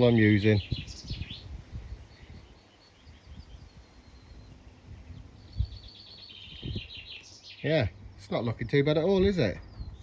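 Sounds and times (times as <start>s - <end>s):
birds trilling: 0.0s - 10.0s.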